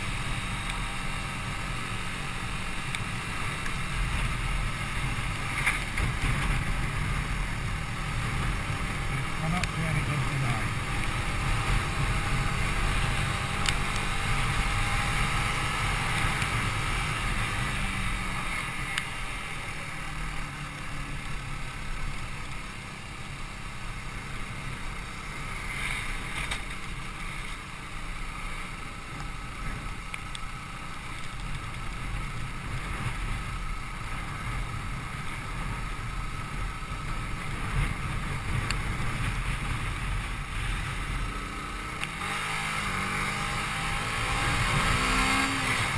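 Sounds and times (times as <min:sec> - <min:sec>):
motorcycle engine running: 0:00.0 - 0:45.9
wind and road rush: 0:00.0 - 0:45.9.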